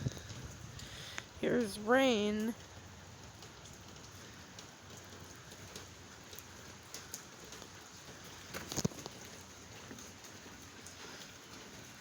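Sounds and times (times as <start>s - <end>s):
raindrops ticking: 0.0s - 12.0s
steady rain hiss: 0.0s - 12.0s.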